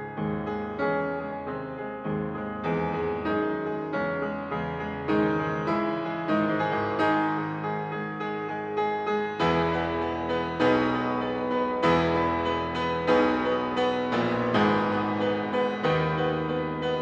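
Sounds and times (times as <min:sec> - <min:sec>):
piano playing gentle chords: 0:00.0 - 0:17.0.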